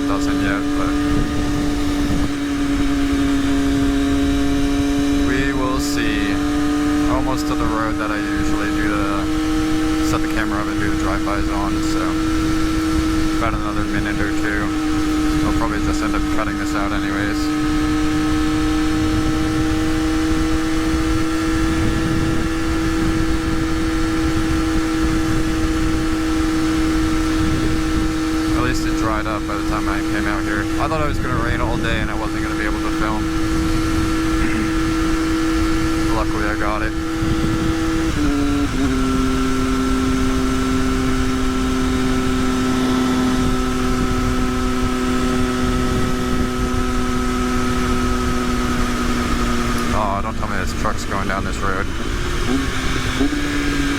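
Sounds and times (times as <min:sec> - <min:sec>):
low wind rumble: 0:00.0 - 0:53.9
motorcycle engine cruising: 0:00.0 - 0:53.9.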